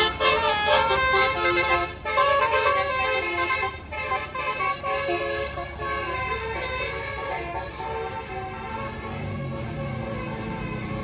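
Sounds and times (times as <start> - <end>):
low engine rumble: 0.0 - 11.0
musical air horn tune: 0.0 - 11.0.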